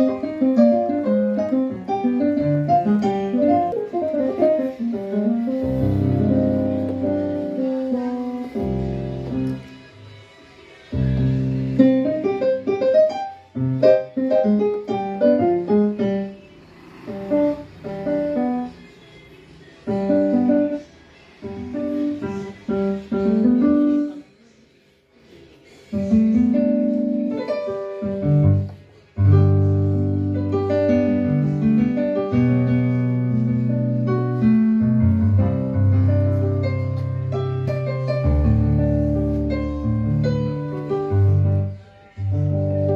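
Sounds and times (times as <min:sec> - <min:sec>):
synthesizer piano sound: 0:00.0 - 0:42.9.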